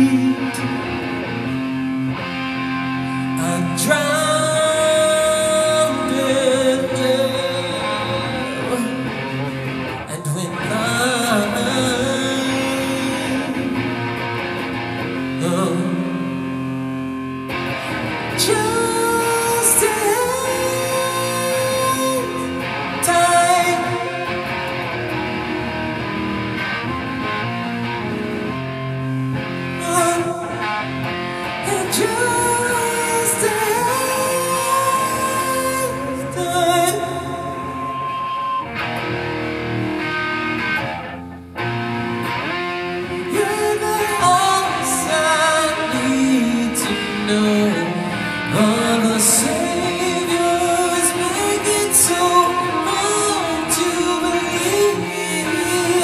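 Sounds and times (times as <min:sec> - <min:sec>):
person singing: 0:00.0 - 0:40.9, 0:41.6 - 0:56.0
electric guitar: 0:00.0 - 0:56.0.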